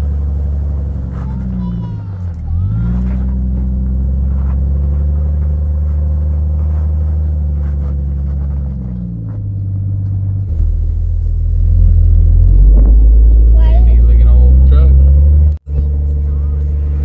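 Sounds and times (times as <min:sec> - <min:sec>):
engine low rumble: 0:00.0 - 0:17.0
vehicle rumble inside cab: 0:00.0 - 0:17.0.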